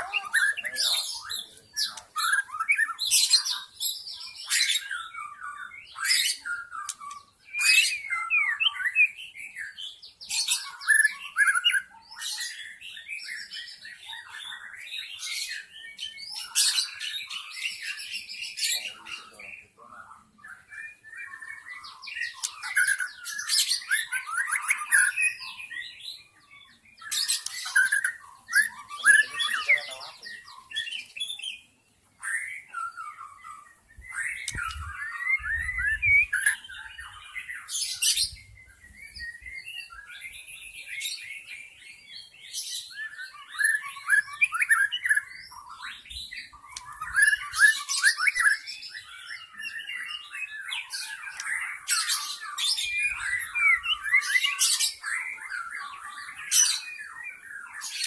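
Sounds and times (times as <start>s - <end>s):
bird singing whistled phrases: 0.0s - 13.8s, 20.5s - 58.0s.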